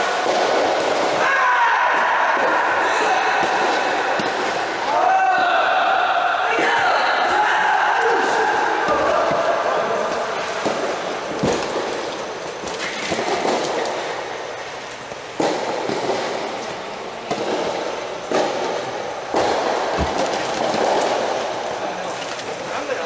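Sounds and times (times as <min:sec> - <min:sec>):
echoing indoor background noise: 0:00.0 - 0:23.0.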